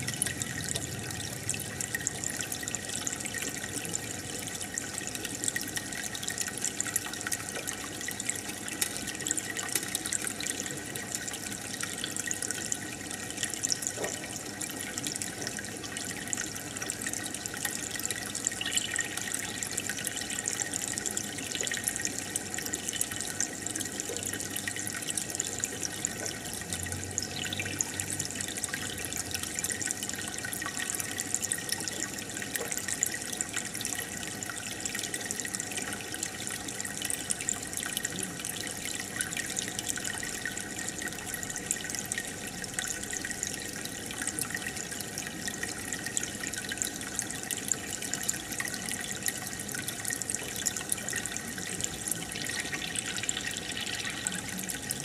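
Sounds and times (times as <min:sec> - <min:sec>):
aquarium water bubbling: 0:00.0 - 0:55.0
small splashes and drips: 0:00.0 - 0:55.0.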